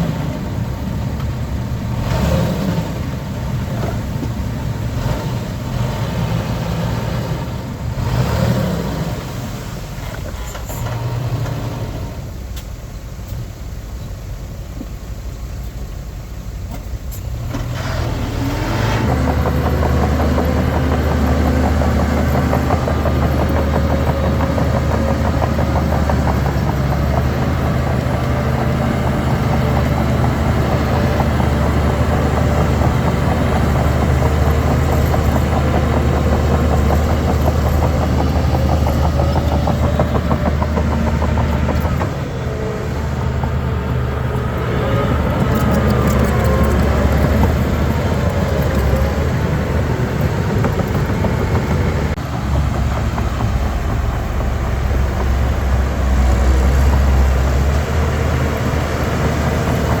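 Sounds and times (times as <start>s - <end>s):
bulldozer diesel engine running: 0.0s - 60.0s.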